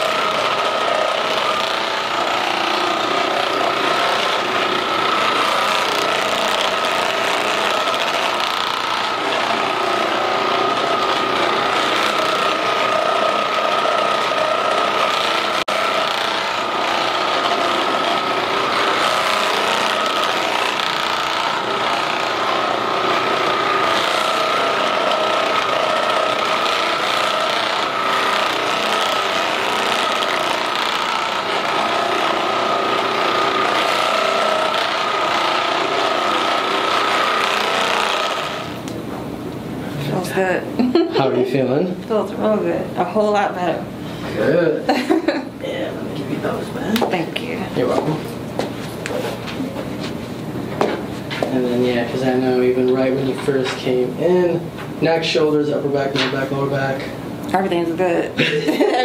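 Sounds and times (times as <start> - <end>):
massage gun motor whine: 0.0 - 59.0.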